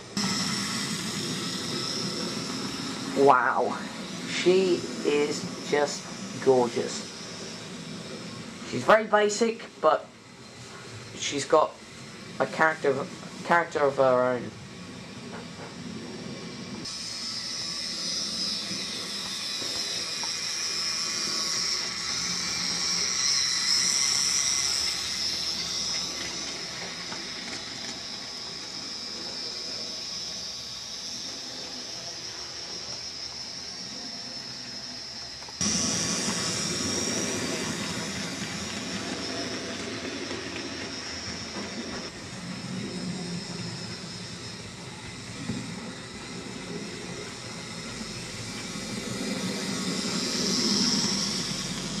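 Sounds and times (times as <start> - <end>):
model train whirring on track: 0.0 - 52.0.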